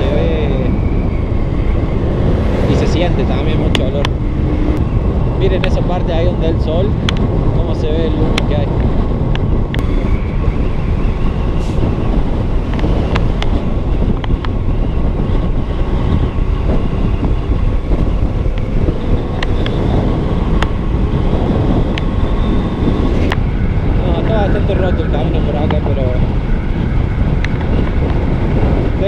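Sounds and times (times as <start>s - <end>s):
wind rush over microphone: 0.0s - 29.0s.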